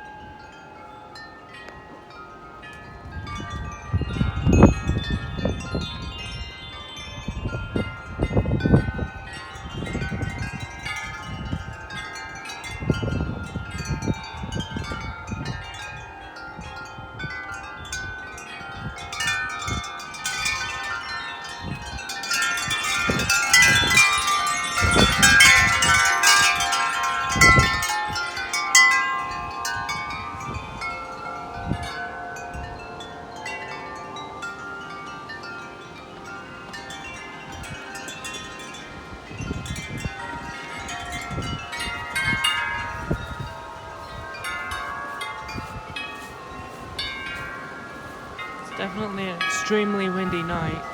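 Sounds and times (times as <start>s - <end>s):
wind chimes ringing: 0.0s - 50.9s
wind buffeting microphone: 1.5s - 50.9s.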